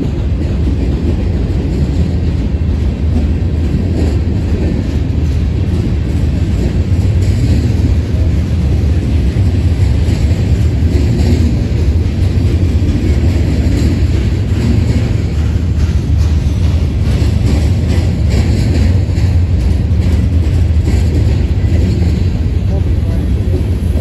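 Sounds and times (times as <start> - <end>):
freight train rumbling past: 0.0 - 24.0.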